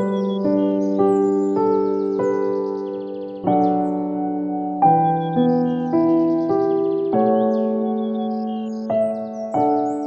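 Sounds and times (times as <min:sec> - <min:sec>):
birds chirping: 0:00.0 - 0:10.0
slow soft piano music: 0:00.0 - 0:10.0.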